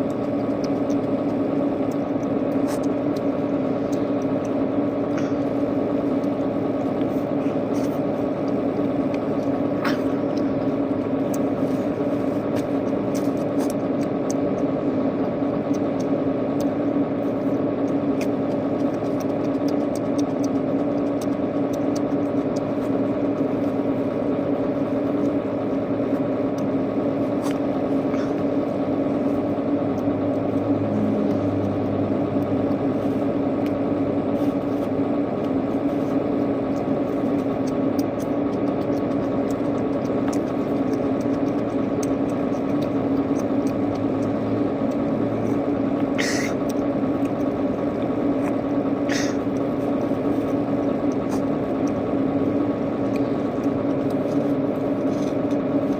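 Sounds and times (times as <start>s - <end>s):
faint eating clicks: 0.0s - 55.9s
motor humming: 0.0s - 55.9s.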